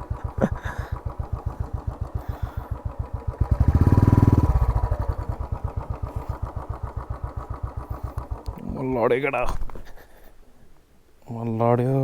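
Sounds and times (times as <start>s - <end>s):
motorcycle engine idling and revving: 0.0s - 9.8s.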